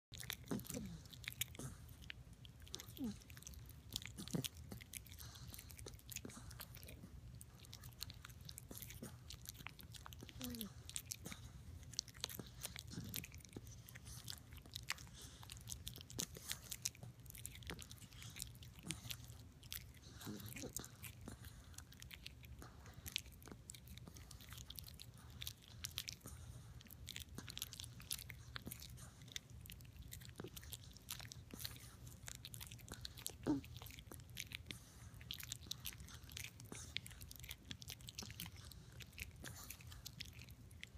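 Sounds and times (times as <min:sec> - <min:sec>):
dog gnawing chew stick: 0:00.1 - 0:40.9.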